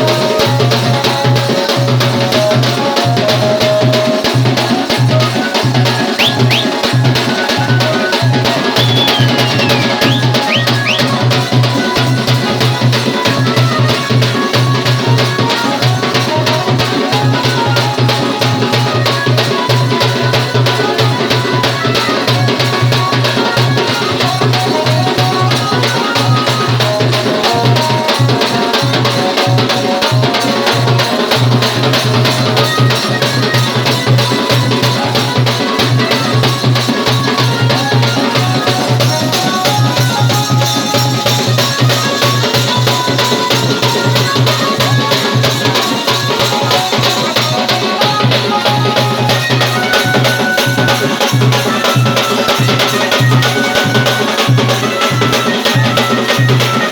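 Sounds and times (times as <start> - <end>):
fast steady drumming: 0.0 - 56.9.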